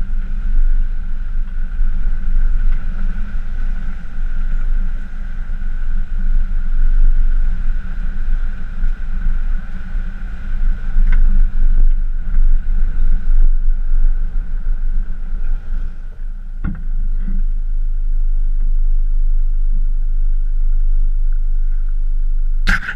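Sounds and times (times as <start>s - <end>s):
truck driving on gravel rumble: 0.0s - 22.9s.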